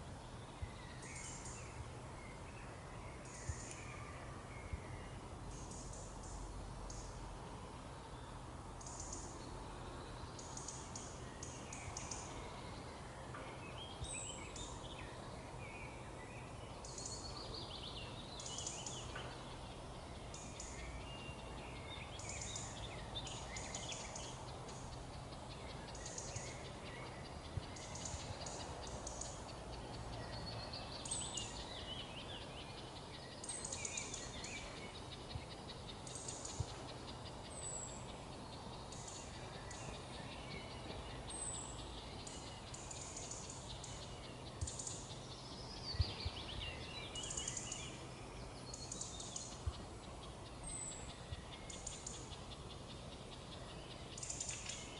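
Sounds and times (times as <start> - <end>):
low background noise: 0.0 - 54.9
songbirds singing and chirping: 0.0 - 54.9.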